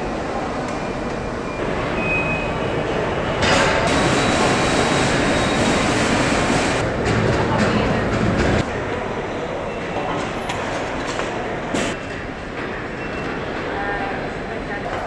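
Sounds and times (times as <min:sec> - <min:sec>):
factory machinery noise: 0:00.0 - 0:15.0.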